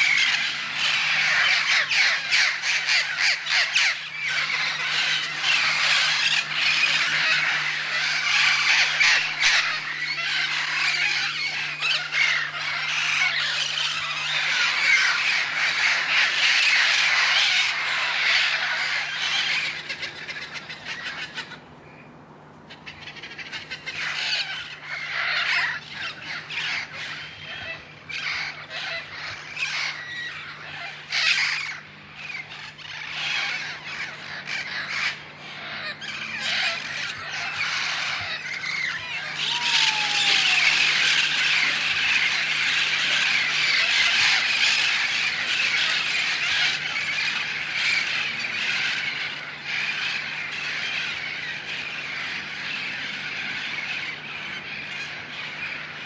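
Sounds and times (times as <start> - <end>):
flock of parrots squawking: 0.0 - 21.7, 22.7 - 56.0.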